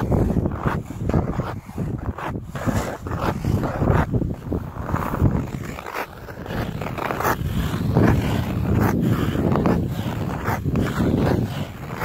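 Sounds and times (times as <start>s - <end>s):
ice skates scraping on ice: 0.0s - 12.0s.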